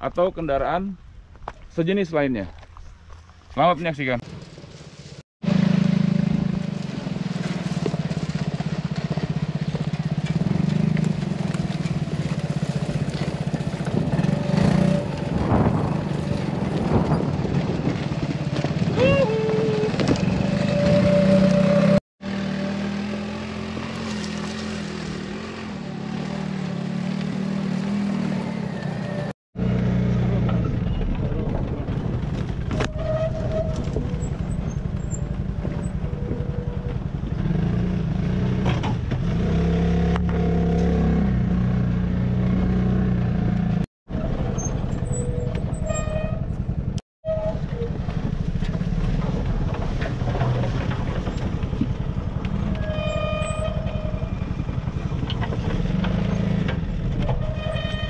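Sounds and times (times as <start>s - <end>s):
buggy engine revving: 5.4s - 58.0s.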